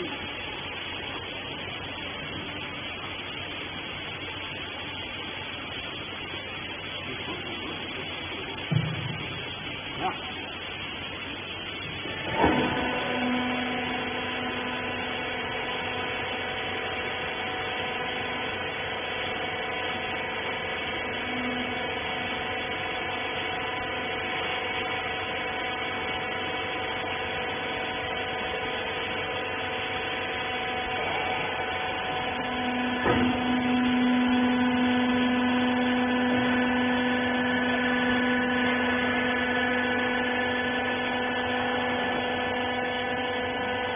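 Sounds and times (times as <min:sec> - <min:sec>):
baler motor hum with whine: 0:00.0 - 0:43.9.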